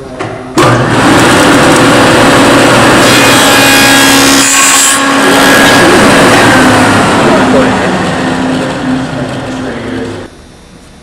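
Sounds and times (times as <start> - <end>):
table saw cutting wood: 0.6 - 10.3.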